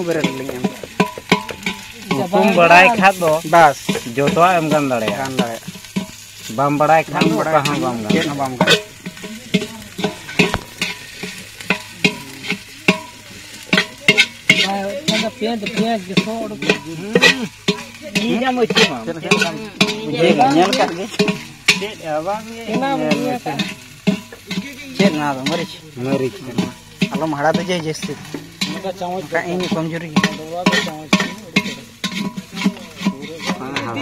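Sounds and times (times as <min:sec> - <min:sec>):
spoon stirring in pot: 0:00.0 - 0:21.9, 0:22.6 - 0:25.9, 0:26.6 - 0:34.0
onions frying: 0:00.0 - 0:34.0.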